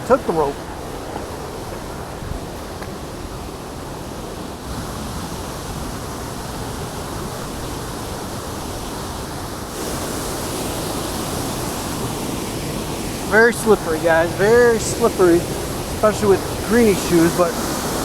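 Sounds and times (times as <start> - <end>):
fast-flowing river water: 0.0 - 18.0
waterfall rushing: 0.0 - 18.0.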